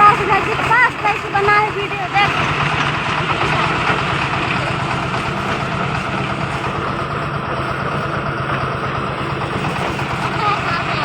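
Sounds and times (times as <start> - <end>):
concrete mixer running: 0.0 - 11.0.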